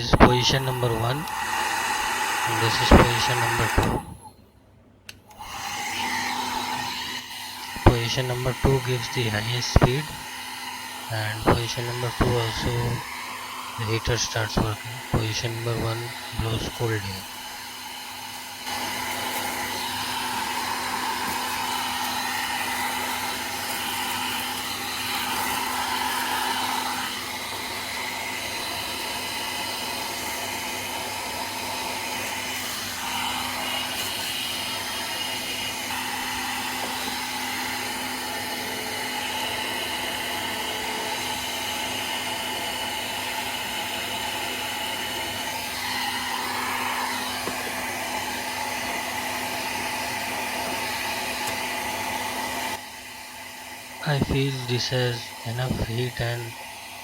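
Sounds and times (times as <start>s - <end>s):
hair dryer running: 0.0s - 4.3s, 5.1s - 57.0s.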